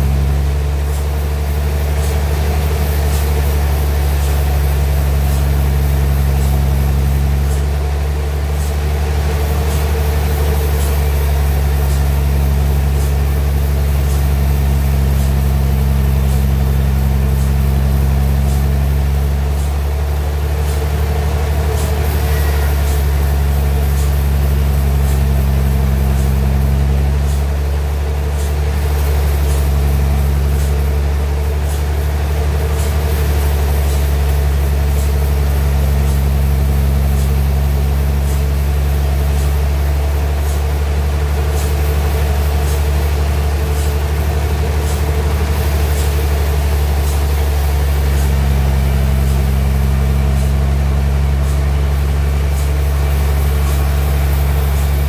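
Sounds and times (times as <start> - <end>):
sawmill engine humming: 0.0 - 55.0.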